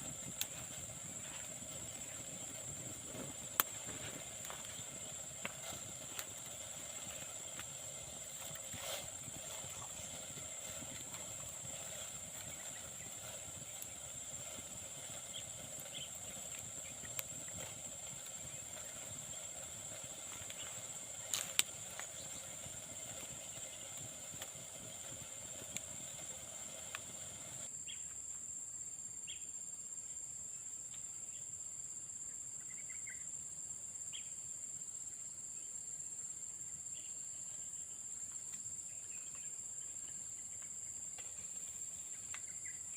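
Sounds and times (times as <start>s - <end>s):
garden background noise: 0.0s - 42.9s
high-pitched insect trill: 0.0s - 42.9s.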